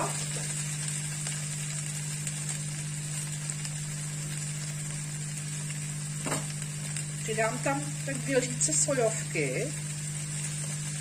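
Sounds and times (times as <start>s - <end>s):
faint crackles: 0.0s - 11.0s
steady low hum: 0.0s - 11.0s
vegetables sizzling in hot oil: 0.0s - 11.0s.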